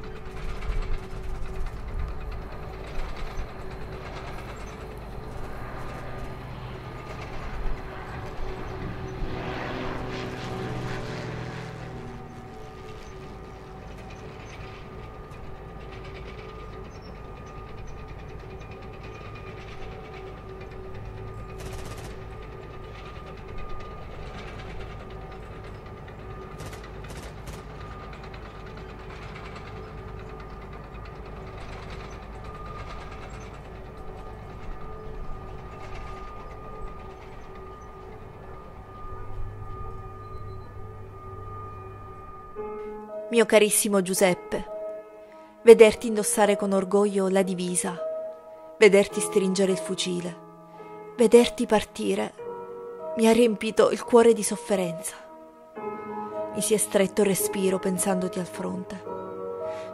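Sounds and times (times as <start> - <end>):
low rumbling drone: 0.0 - 59.9.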